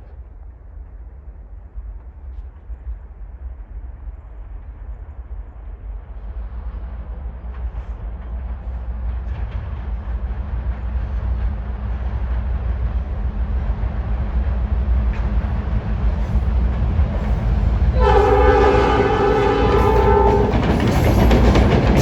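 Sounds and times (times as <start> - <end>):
diesel train rumbling: 0.0 - 22.0.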